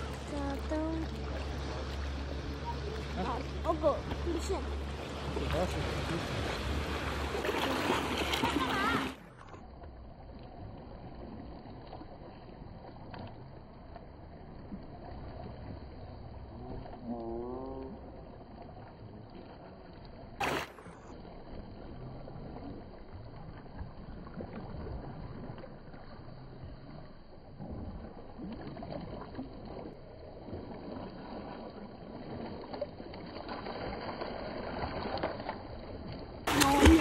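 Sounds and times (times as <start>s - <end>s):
water sloshing and splashing: 0.0s - 37.0s.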